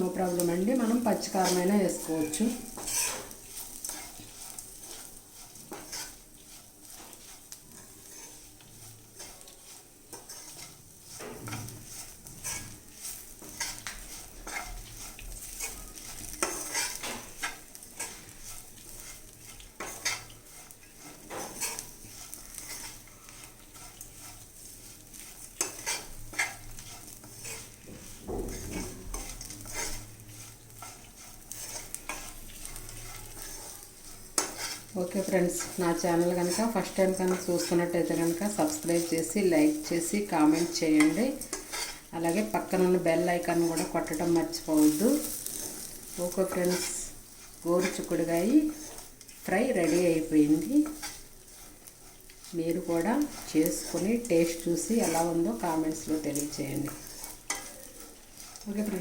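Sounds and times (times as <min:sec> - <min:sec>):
beans sizzling in a pan: 0:00.0 - 0:59.0
spatula scraping a pan: 0:00.0 - 0:59.0.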